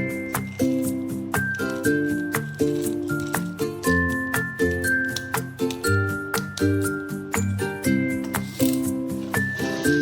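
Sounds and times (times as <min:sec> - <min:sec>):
bright music with steady beat: 0:00.0 - 0:10.0.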